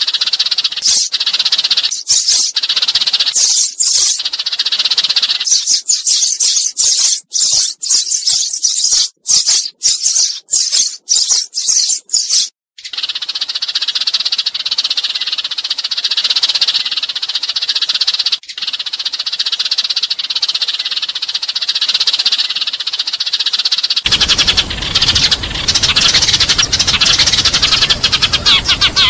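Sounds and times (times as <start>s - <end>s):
sparrows chirping: 0.0s - 20.0s, 23.8s - 29.0s.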